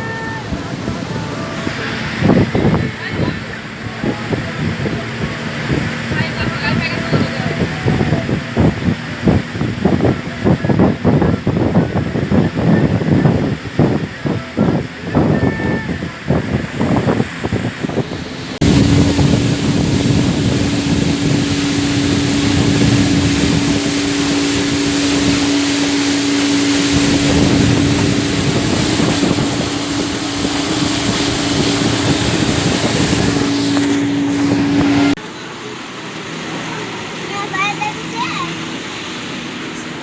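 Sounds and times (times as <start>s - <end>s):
rushing wind: 0.0s - 35.2s
motorboat engine drone: 0.0s - 40.0s
water rushing: 0.0s - 40.0s.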